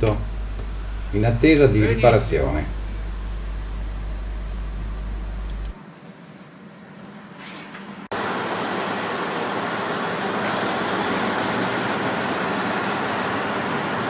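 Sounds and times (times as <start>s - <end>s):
diesel railcars running: 0.0s - 5.8s, 7.1s - 14.0s.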